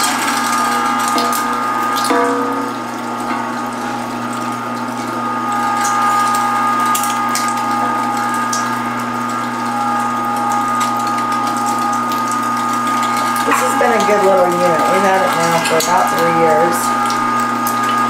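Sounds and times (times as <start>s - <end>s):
meat grinder motor whining: 0.0s - 18.0s.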